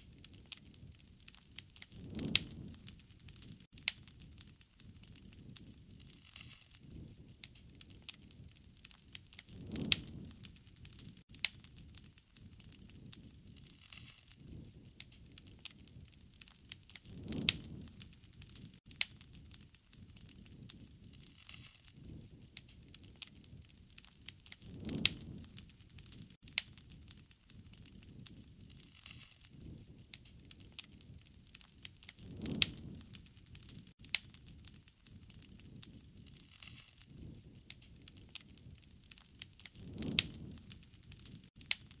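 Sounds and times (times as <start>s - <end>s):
wood fire crackling: 0.0s - 42.0s
flame rushing: 0.2s - 19.6s, 20.2s - 41.9s.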